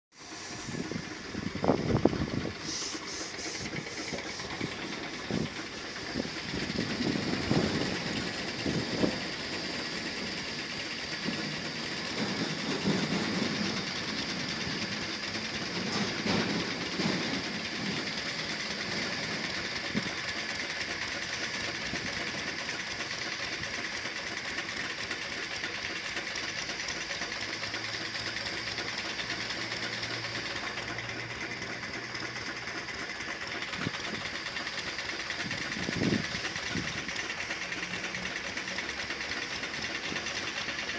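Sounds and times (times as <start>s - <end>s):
compressor running with chugging rattle: 0.1s - 40.9s.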